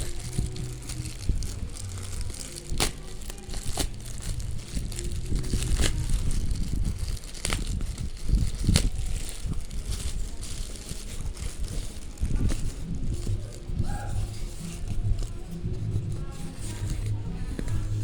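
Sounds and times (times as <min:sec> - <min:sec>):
packaging crinkling and rustling: 0:00.0 - 0:18.0.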